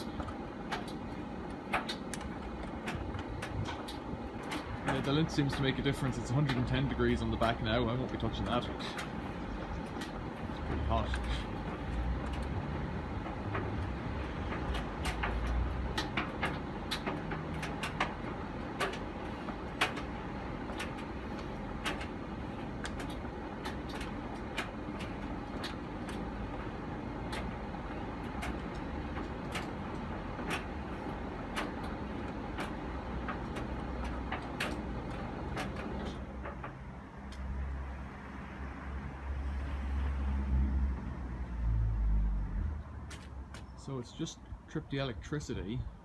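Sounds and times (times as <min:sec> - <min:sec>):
tumble dryer humming: 0:00.0 - 0:37.0
sharp clicks and knocks: 0:00.0 - 0:37.7, 0:43.0 - 0:43.8.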